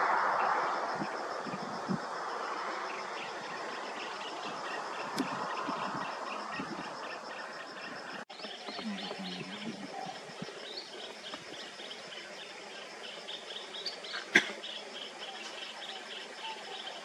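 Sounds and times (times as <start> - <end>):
insects pulsing chorus: 0.0 - 17.0
thin continuous buzz: 0.0 - 17.0.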